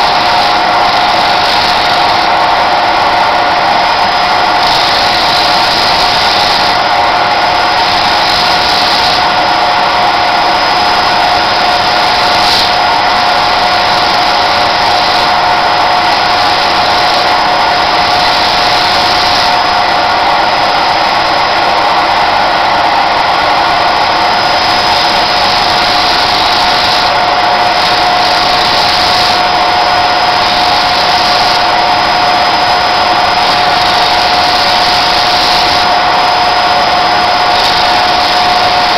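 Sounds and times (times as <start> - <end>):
rotary tool grinding bone: 0.0 - 2.7, 3.6 - 21.2, 23.9 - 38.9.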